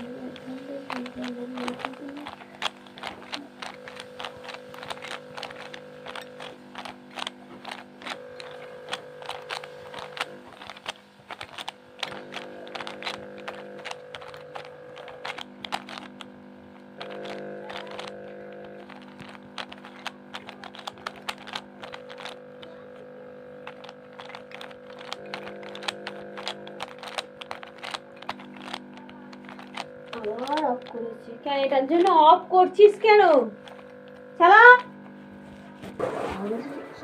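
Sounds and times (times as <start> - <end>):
speed cube clicking: 0.0 - 34.9.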